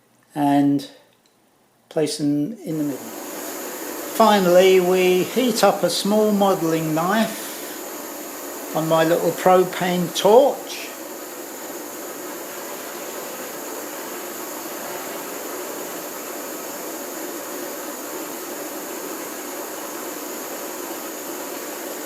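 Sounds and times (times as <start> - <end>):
propane torch hissing: 2.5 - 22.0.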